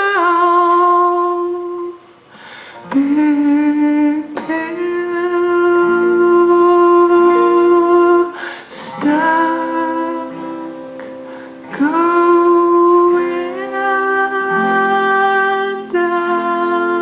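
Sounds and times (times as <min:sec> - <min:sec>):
person singing long notes: 0:00.0 - 0:02.2, 0:02.8 - 0:17.0
plucked acoustic guitar chords: 0:02.8 - 0:17.0.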